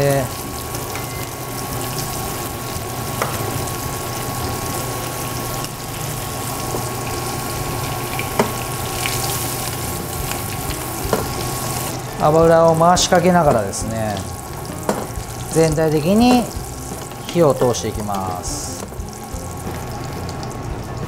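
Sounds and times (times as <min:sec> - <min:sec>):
meat and butter sizzling in pan: 0:00.0 - 0:21.0.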